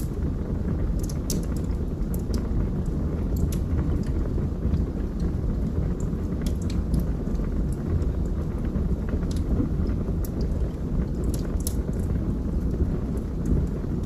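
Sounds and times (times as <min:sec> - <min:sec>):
fire flames roaring: 0:00.0 - 0:14.0
logs crackling and popping: 0:00.0 - 0:14.0.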